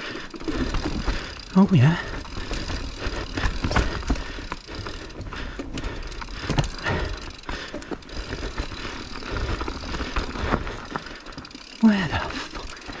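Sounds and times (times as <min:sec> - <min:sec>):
bike frame and chain rattling: 0:00.0 - 0:13.0
freehub ticking: 0:00.0 - 0:13.0.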